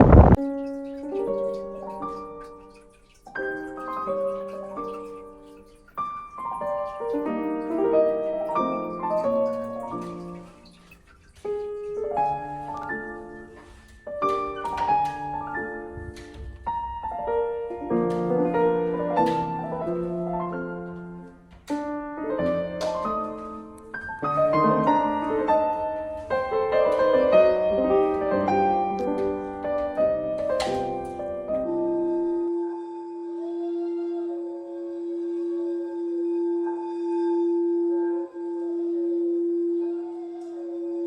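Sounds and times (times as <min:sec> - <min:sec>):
piano music: 0:00.0 - 0:41.0.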